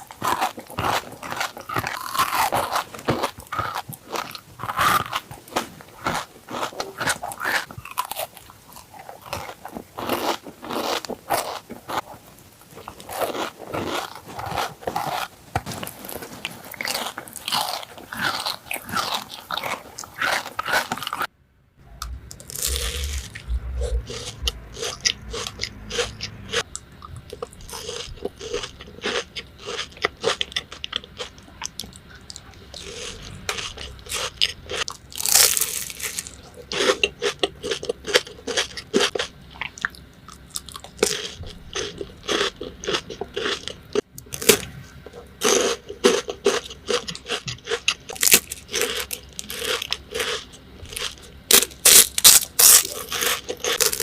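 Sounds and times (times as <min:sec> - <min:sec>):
chocolate bar bite and chewing: 0:00.0 - 0:12.1, 0:22.0 - 0:44.7, 0:45.4 - 0:54.0
crispy pastry crunching: 0:00.0 - 0:21.3, 0:22.0 - 0:54.0.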